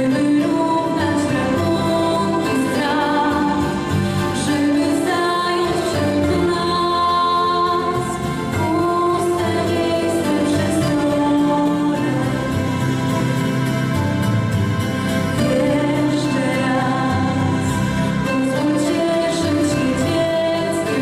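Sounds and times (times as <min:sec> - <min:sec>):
person singing: 0:00.0 - 0:13.9, 0:15.4 - 0:21.0
instrumental accompaniment: 0:00.0 - 0:21.0.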